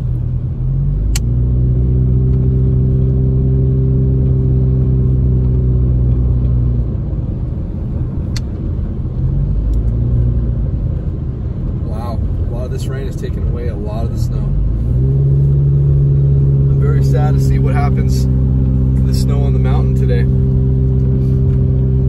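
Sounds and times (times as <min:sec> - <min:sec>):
car engine humming: 0:00.0 - 0:22.0
road noise on wet pavement: 0:00.0 - 0:22.0.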